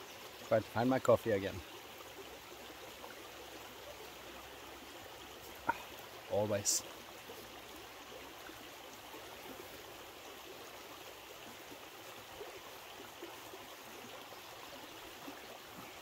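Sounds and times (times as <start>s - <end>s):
water running over stones: 0.0s - 16.0s.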